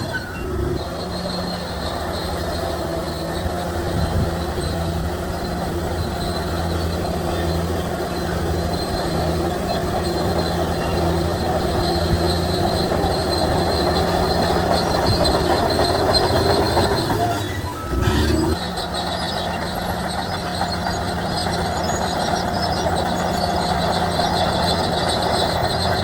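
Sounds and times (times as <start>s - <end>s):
bulldozer diesel engine running: 0.0s - 26.0s
faint high squeal: 0.0s - 26.0s
steel tracks rattling: 0.0s - 26.0s.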